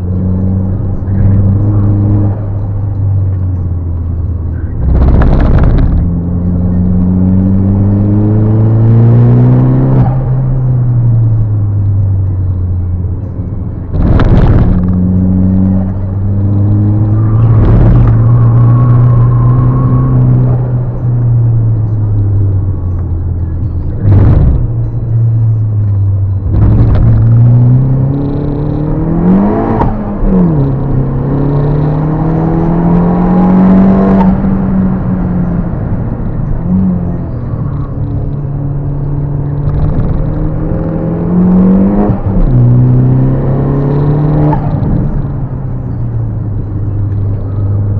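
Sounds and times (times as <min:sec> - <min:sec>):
turbocharged car engine revving: 0:00.0 - 0:12.3, 0:13.8 - 0:47.9.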